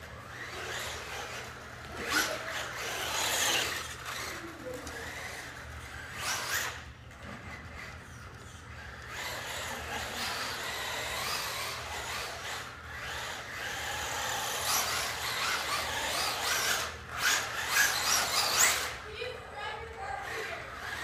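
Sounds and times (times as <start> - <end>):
tyres on tile floor: 0.0 - 19.5
electric motor whining: 0.1 - 7.1, 7.8 - 19.0.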